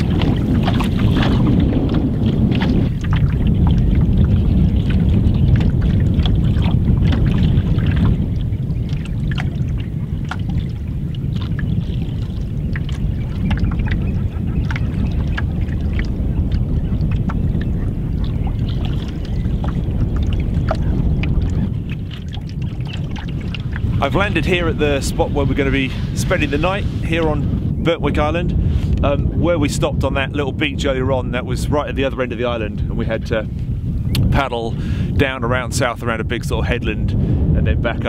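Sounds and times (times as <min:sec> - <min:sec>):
water lapping against canoe hull: 0:00.0 - 0:36.6
wind rumble on microphone: 0:00.0 - 0:38.0.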